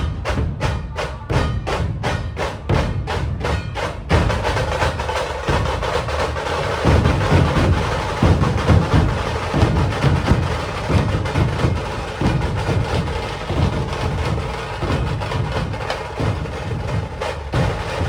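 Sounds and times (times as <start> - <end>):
deep barrel drums booming: 0.0 - 18.0
sharp rattling drum strokes: 0.0 - 18.0.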